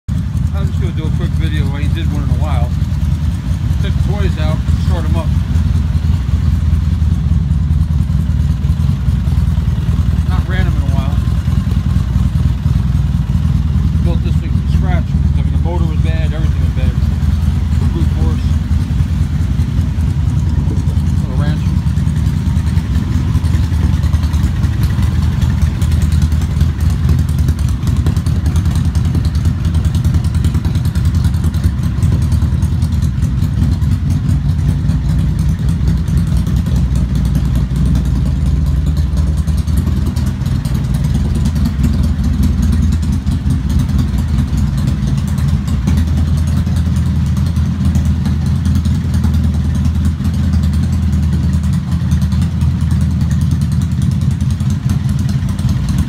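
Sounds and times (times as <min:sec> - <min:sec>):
atv engine idling: 0:00.1 - 0:56.0.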